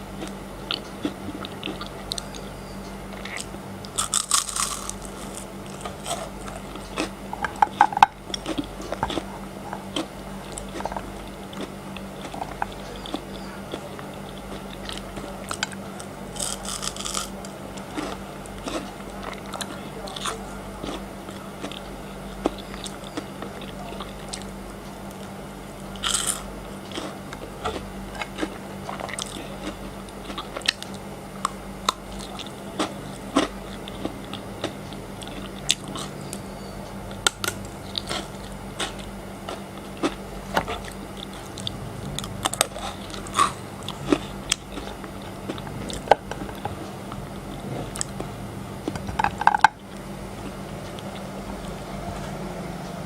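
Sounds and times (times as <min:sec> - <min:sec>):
faint steady hum: 0:00.0 - 0:53.0
chocolate crunching while chewed: 0:00.1 - 0:51.3.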